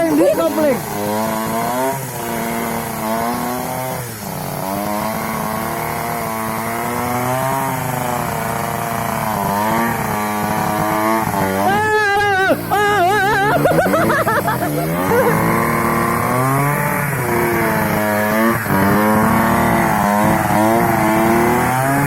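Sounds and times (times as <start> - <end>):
motorcycle engine revving hard: 0.0 - 22.0.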